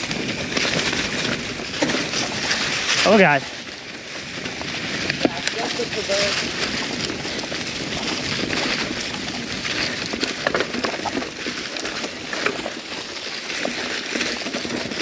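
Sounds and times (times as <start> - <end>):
bike clicking and rattling: 0.0 - 15.0
bike tyres on dirt trail: 0.0 - 15.0.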